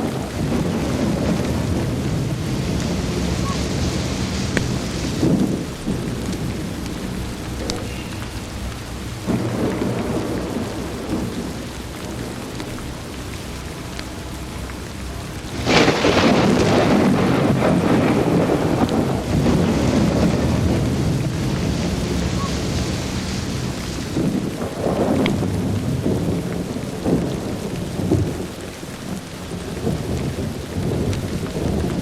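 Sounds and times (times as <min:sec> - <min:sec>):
loud thunder clap: 0:00.0 - 0:12.6, 0:15.5 - 0:28.6
steady rain: 0:00.0 - 0:32.0
thunder rolling: 0:00.0 - 0:32.0.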